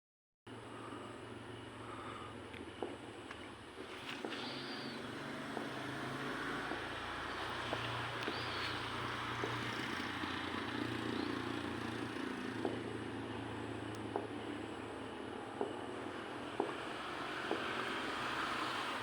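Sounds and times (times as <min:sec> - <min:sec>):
distant jet aircraft rumble: 0:00.5 - 0:19.0.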